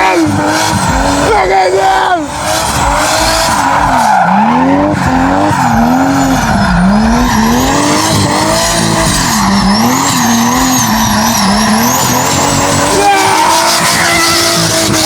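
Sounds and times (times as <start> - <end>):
car engine revving: 0.0 - 15.0
tyres squealing on pavement: 1.2 - 15.0.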